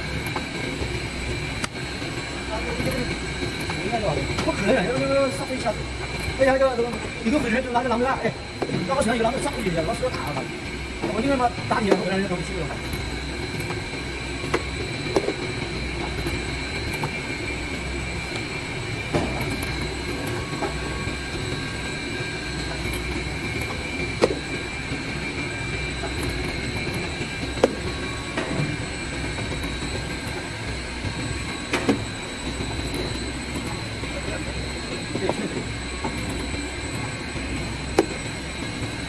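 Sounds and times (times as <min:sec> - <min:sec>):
cutting machine humming and whining: 0:00.0 - 0:39.0.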